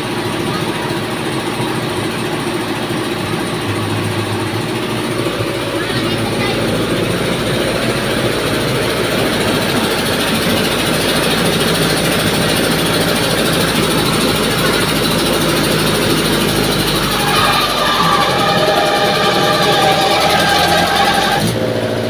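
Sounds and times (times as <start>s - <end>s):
rice mill running: 0.0s - 21.7s.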